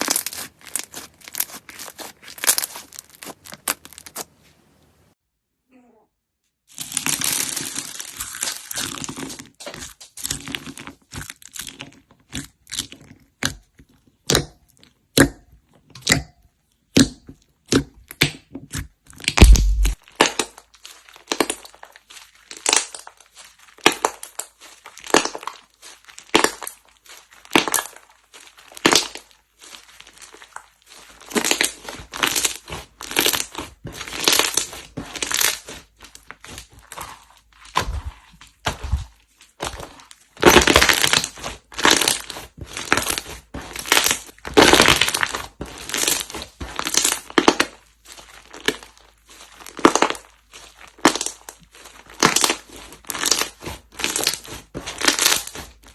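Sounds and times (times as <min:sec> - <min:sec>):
slime squeezing crackles: 0:00.0 - 0:04.4, 0:06.7 - 0:15.2, 0:17.7 - 0:55.9.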